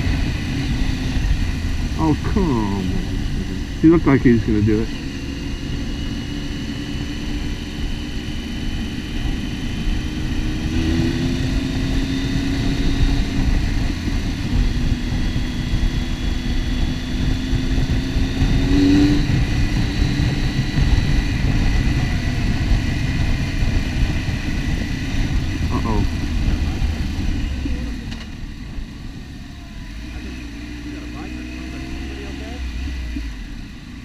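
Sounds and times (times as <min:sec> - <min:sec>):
wind rumble: 0:00.0 - 0:30.9
motorcycle engine revving: 0:00.0 - 0:34.0.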